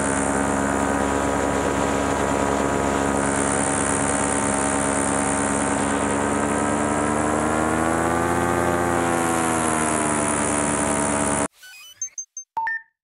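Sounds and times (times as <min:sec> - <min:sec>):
paramotor engine and propeller drone: 0:00.0 - 0:11.5.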